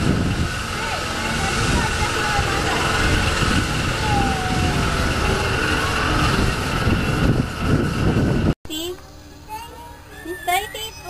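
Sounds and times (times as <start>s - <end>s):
rushing rumbling noise: 0.0s - 9.4s
mechanical whine: 0.0s - 11.0s.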